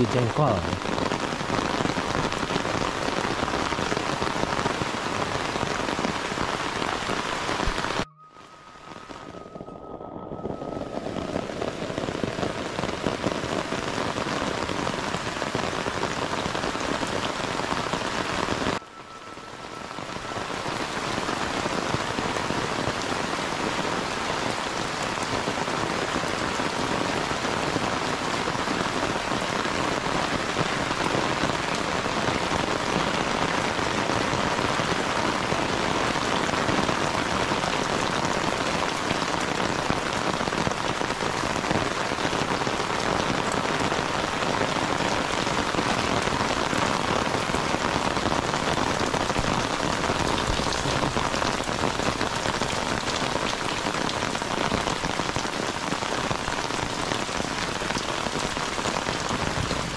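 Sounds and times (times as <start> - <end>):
heavy rain on roofs: 0.0 - 59.9.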